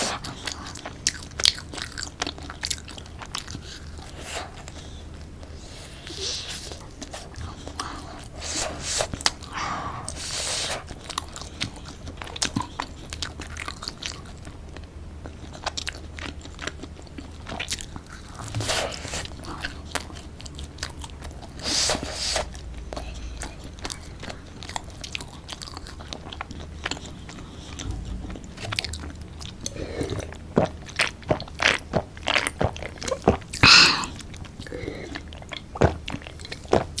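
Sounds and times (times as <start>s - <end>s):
crunching and wet chewing: 0.0s - 37.0s.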